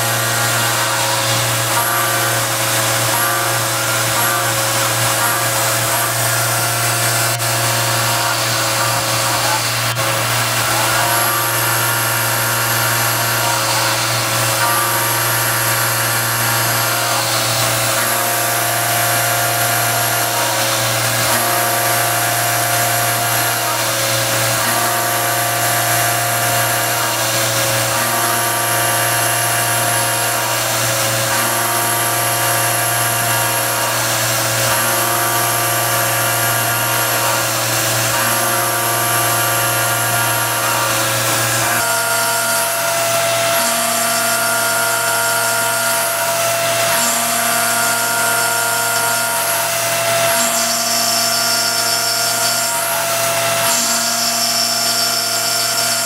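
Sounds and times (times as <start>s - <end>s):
milling machine whine: 0.0s - 56.0s.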